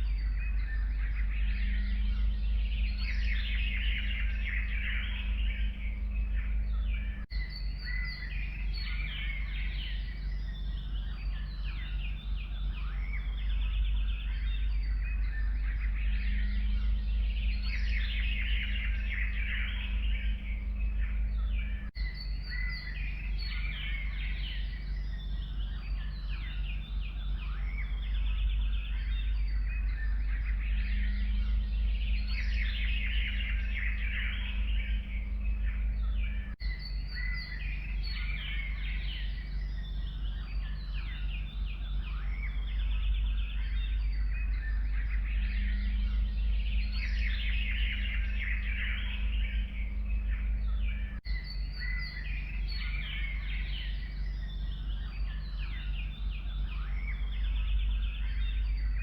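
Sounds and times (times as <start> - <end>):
songbirds chirping and trilling: 0.0 - 59.0
steady low rumble: 0.0 - 59.0.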